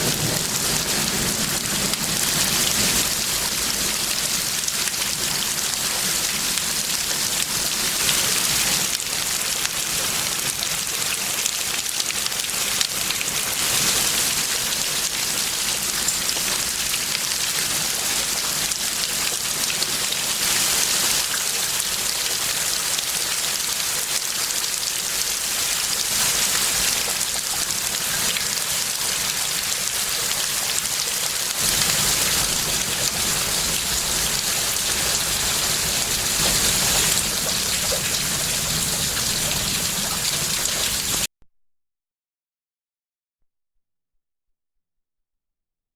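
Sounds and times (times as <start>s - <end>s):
heavy rain pouring: 0.0s - 41.3s.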